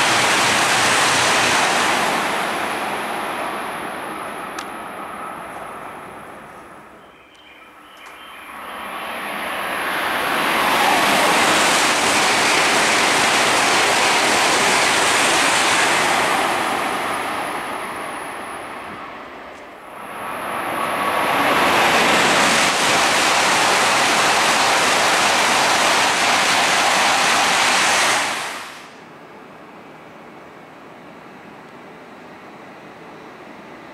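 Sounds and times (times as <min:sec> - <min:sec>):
high-speed train rushing past: 0:00.0 - 0:33.9.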